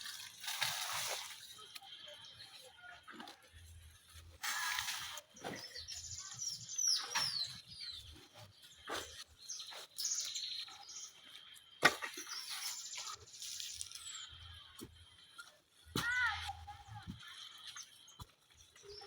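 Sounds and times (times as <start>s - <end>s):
birds chirping: 0.0s - 4.3s, 5.0s - 19.0s.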